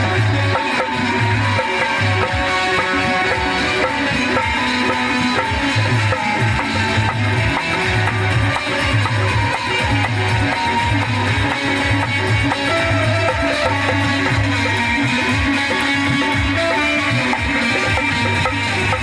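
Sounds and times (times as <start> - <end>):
drums with repeating bass beat: 0.0 - 19.0.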